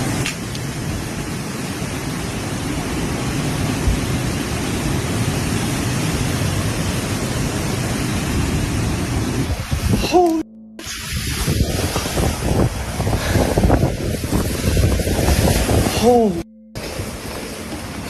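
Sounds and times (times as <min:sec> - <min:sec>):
strong wind and rain: 0:00.0 - 0:18.0.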